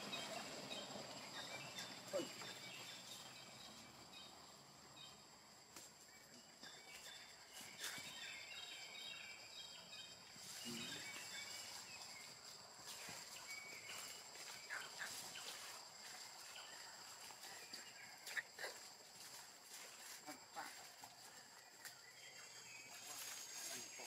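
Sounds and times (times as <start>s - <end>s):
high-pitched insect hum: 0.0s - 24.0s.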